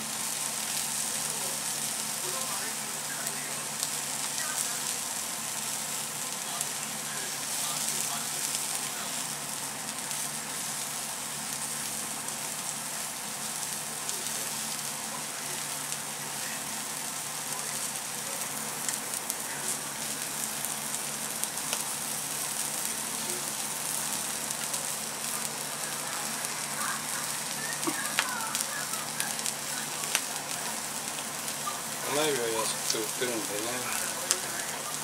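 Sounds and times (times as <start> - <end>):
shrimp heads sizzling in a pan: 0.0 - 35.0.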